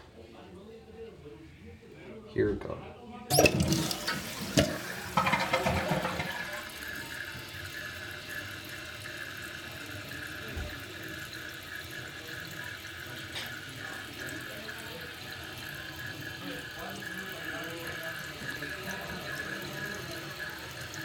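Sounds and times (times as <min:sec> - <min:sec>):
tank refilling with running water: 0:03.3 - 0:21.0
toilet flushing: 0:03.3 - 0:21.0.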